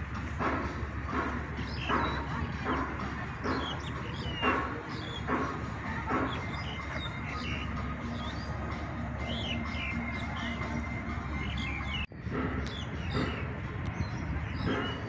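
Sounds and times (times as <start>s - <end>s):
steady outdoor rumble: 0.0s - 15.0s
small birds chirping: 0.4s - 15.0s.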